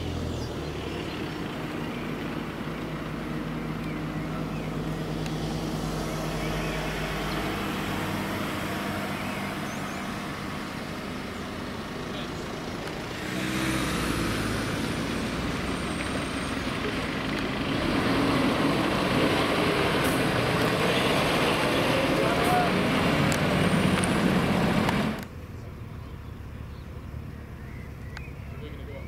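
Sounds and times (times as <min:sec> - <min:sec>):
diesel truck engines running: 0:00.0 - 0:29.0.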